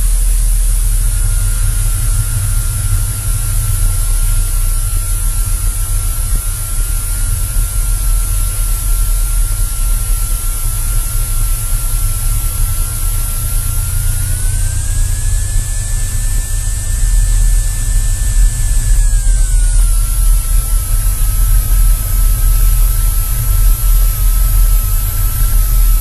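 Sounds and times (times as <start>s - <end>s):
light aircraft engine running: 0.0s - 26.0s
thin steady whine: 0.0s - 26.0s.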